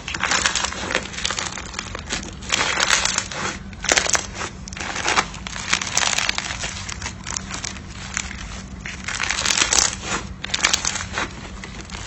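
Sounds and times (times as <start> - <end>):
slime crackling and popping: 0.0 - 12.0.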